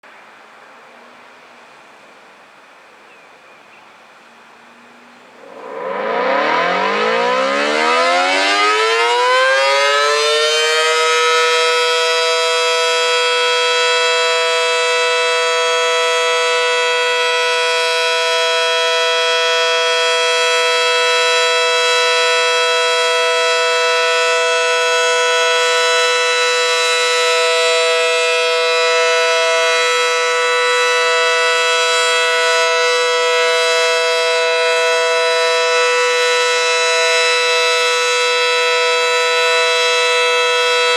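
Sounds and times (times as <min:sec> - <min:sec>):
warning siren winding up: 0:05.4 - 0:40.9.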